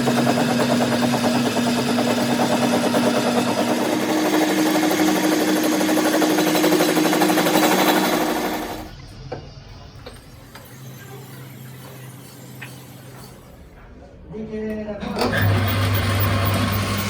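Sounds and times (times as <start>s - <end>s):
workshop machine clattering: 0.0s - 14.0s, 15.0s - 17.0s.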